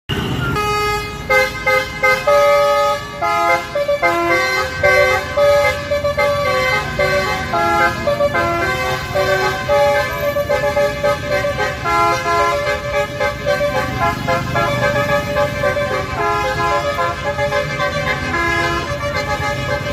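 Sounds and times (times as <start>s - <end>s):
multi-tone musical bus horn: 0.1s - 19.9s.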